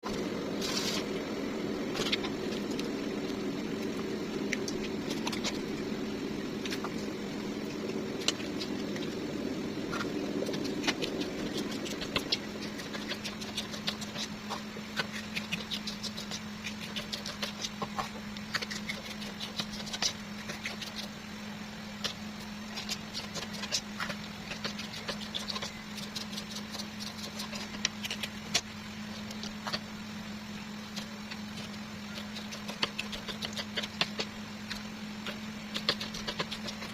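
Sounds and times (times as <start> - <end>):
low mechanical hum: 0.0 - 36.9.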